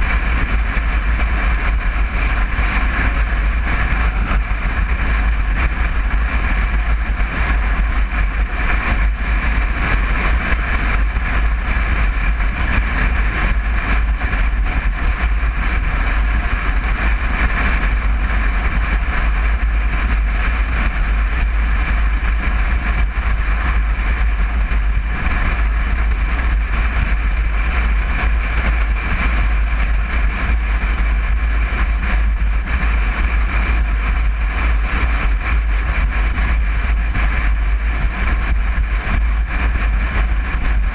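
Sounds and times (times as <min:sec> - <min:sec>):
road and wind noise: 0:00.0 - 0:40.9
van engine running: 0:00.0 - 0:40.9.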